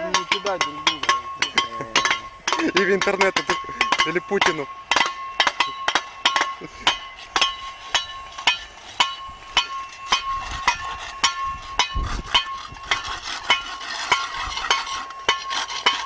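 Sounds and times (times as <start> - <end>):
hand tools striking asphalt: 0.0 - 16.0.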